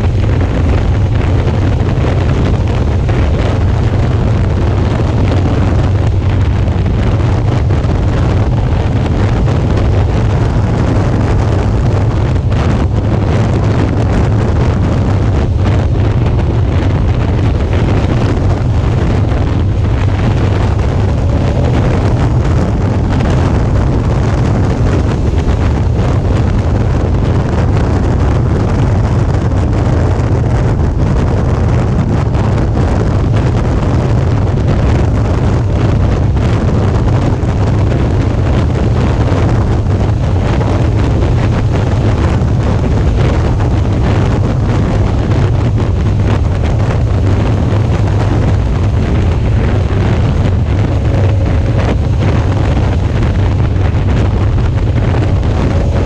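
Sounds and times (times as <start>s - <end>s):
motorcycle engine rumble: 0.0s - 56.0s
wind rushing over microphone: 0.0s - 56.0s.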